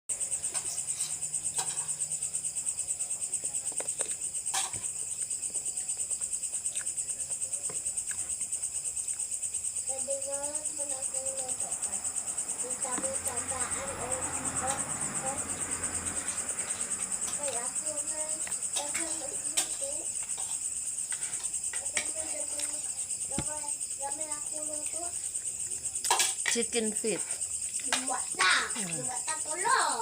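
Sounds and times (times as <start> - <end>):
insects trilling: 0.1 - 30.0.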